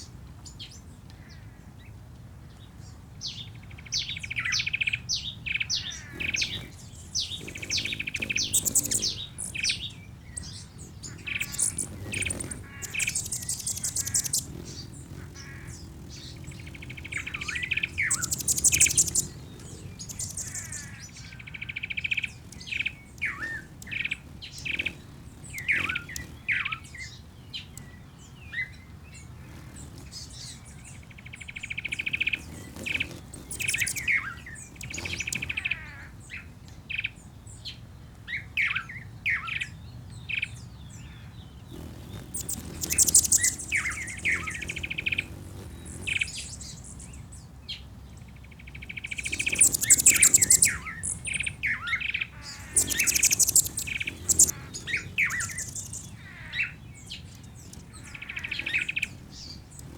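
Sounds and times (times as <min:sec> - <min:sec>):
birds chirping and calling: 0:02.8 - 0:36.5, 0:40.5 - 0:47.8, 0:48.8 - 0:59.9
buzzy rattling bird trill: 0:03.8 - 0:36.0, 0:41.7 - 0:47.3, 0:48.6 - 0:59.9.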